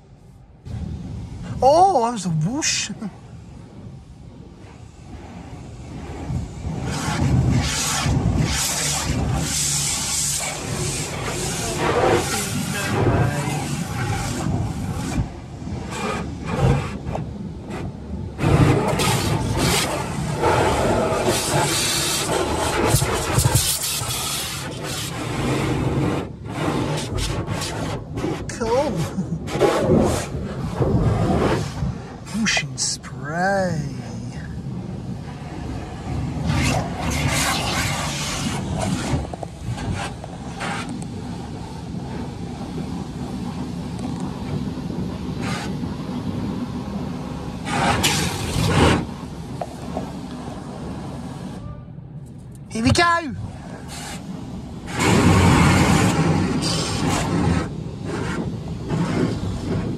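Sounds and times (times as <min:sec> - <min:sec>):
car wash water spray: 0:00.0 - 0:51.6, 0:52.3 - 0:59.9
steady low rumble: 0:00.0 - 0:59.9.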